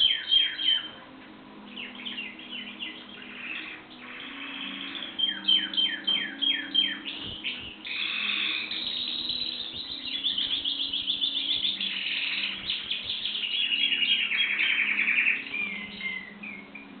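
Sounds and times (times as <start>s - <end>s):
canary singing trills: 0.0s - 1.0s, 1.6s - 17.0s.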